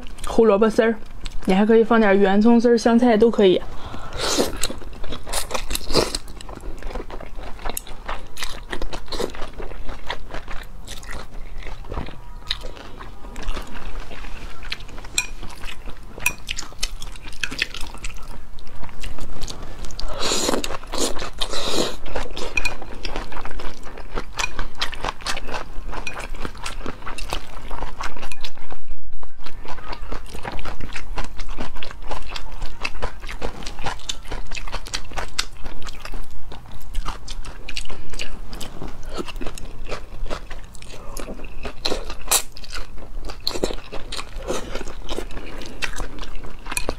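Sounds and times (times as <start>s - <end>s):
crunchy chewing: 3.9s - 46.9s.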